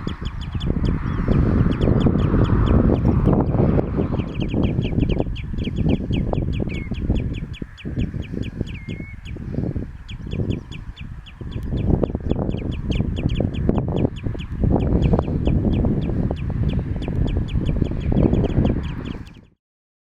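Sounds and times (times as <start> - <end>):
heavy low rumble: 0.0 - 19.3.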